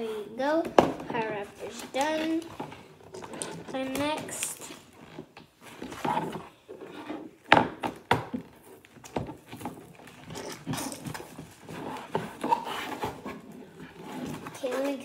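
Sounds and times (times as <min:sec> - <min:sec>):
cardboard and paper rustling: 0:00.0 - 0:07.4, 0:08.4 - 0:15.0.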